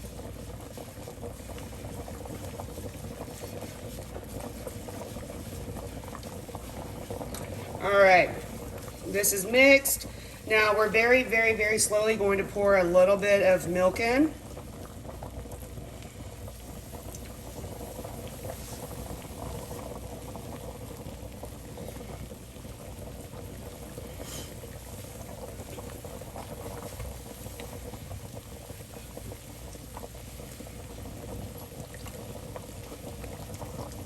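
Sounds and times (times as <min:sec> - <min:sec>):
liquid bubbling at a boil: 0:00.0 - 0:34.0.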